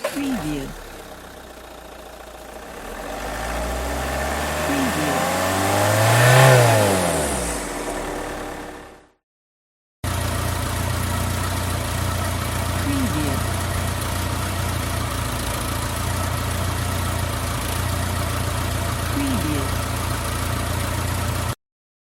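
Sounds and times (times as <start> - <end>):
car engine idling and revving: 0.0 - 9.2, 10.0 - 21.6.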